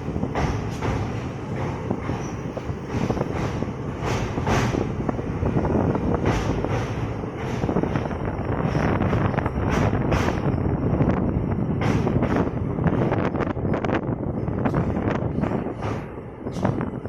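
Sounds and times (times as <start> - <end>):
train clanks and rattles: 0.0 - 17.0
train wheels rumbling on rails: 0.0 - 17.0.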